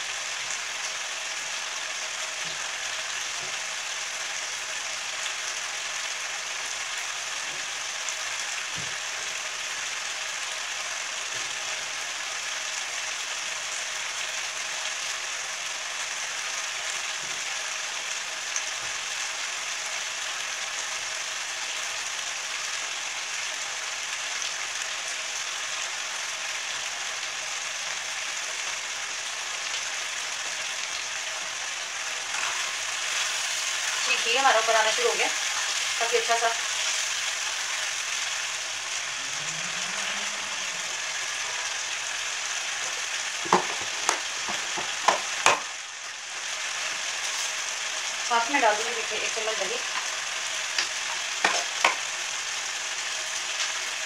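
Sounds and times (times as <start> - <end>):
curry sizzling in a pan: 0.0 - 54.0.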